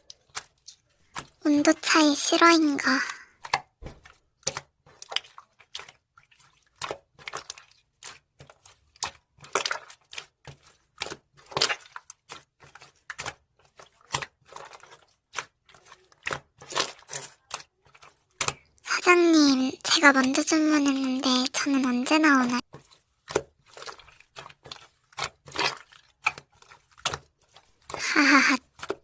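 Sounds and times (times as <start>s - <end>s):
slime squished by hand: 0.0s - 19.5s, 20.1s - 29.0s.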